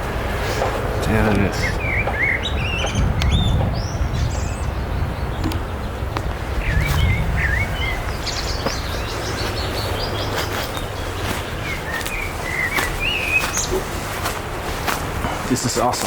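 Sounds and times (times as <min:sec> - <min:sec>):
steady low rumble: 0:00.0 - 0:15.7
wild birds chirping: 0:00.0 - 0:16.0.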